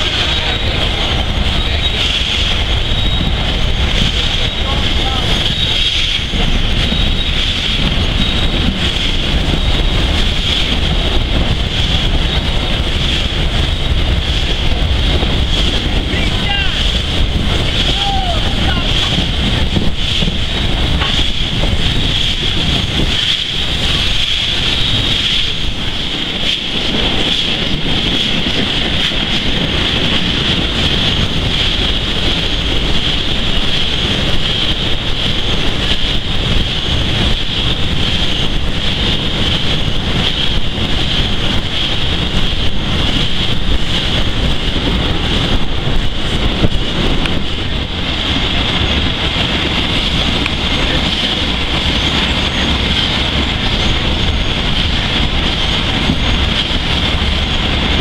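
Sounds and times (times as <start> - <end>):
train rushing rumble: 0.0 - 58.0
wind buffeting microphone: 0.0 - 58.0.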